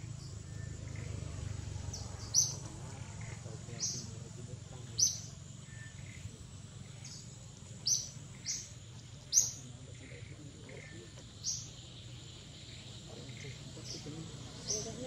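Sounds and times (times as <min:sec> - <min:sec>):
birds chirping: 0:00.0 - 0:15.0
low background hum: 0:00.0 - 0:15.0.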